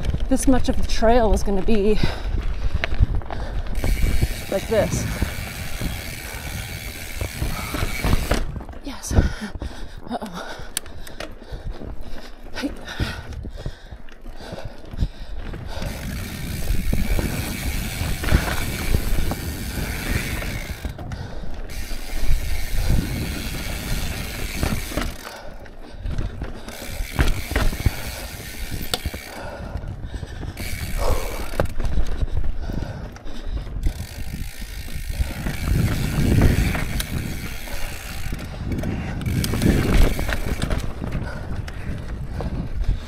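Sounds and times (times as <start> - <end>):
bike freehub ratcheting: 0.0 - 8.6, 15.3 - 43.0
bike knocking and rattling: 0.0 - 43.0
tyres rumbling on trail: 0.0 - 43.0.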